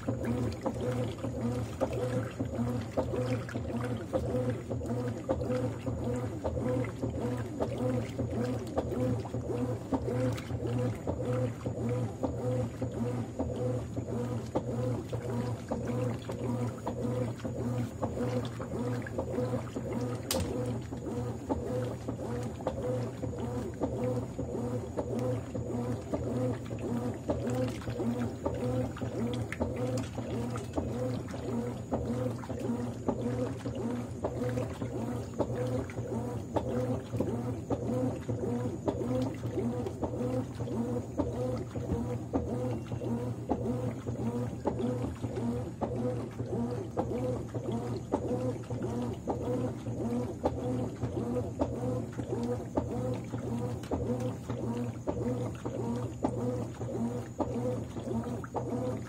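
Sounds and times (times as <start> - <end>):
washing machine motor hum: 0.0 - 59.0
water churning: 0.0 - 59.0.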